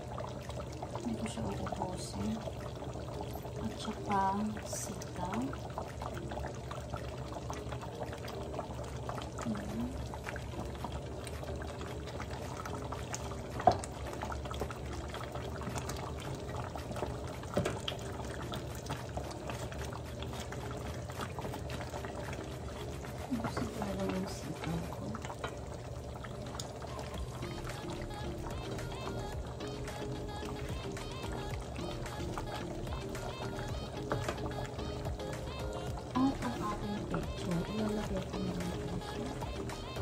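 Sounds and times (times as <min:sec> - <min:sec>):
stew bubbling in pot: 0:00.0 - 0:40.0.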